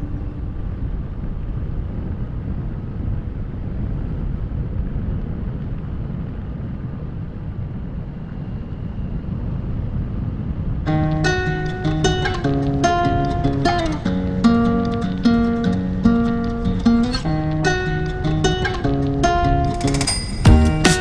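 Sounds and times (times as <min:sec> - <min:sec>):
wind rushing over microphone: 0:00.0 - 0:19.8.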